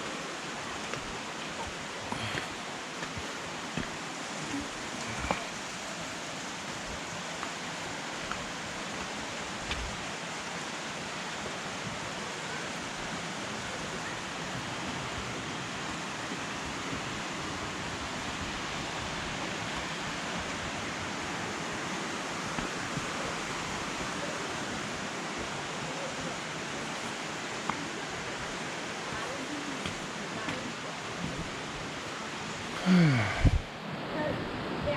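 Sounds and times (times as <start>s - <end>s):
water rushing in a creek: 0.0s - 34.9s.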